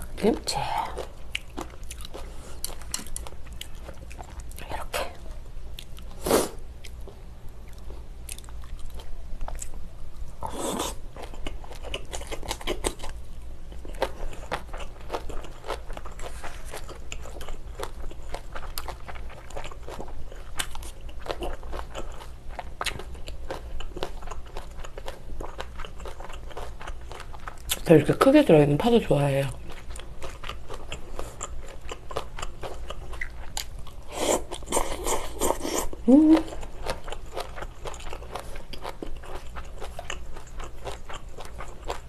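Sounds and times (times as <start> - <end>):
chewing and crunching food: 0.0 - 6.2, 6.8 - 42.0.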